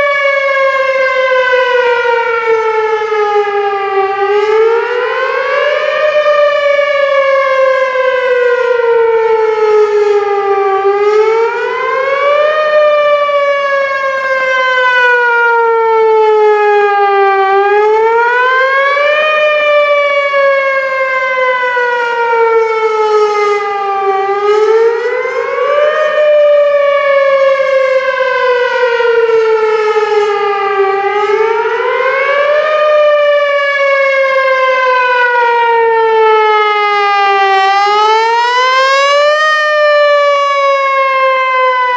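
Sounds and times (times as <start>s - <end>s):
rising and falling warning siren: 0.0s - 41.9s.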